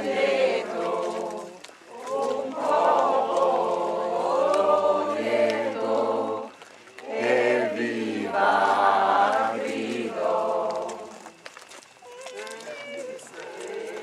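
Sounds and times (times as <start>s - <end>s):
many voices singing together: 0.0s - 11.4s, 13.2s - 14.0s.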